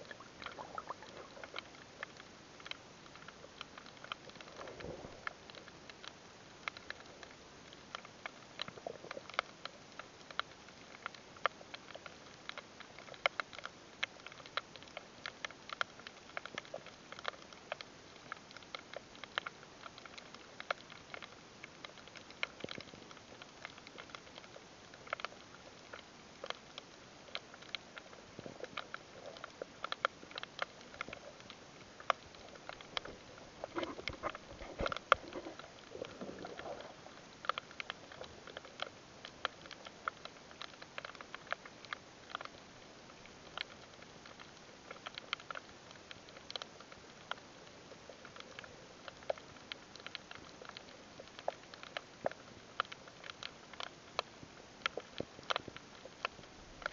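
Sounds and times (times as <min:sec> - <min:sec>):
underwater clicking crackle: 0:00.0 - 0:56.9.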